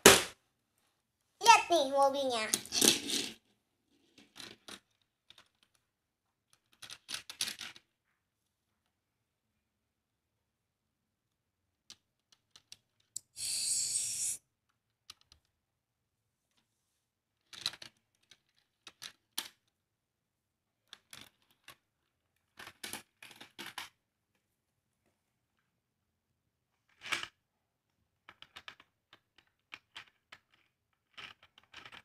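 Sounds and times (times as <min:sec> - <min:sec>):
toy car on plastic playset: 0:01.4 - 0:09.0, 0:11.0 - 0:24.4, 0:26.6 - 0:32.0.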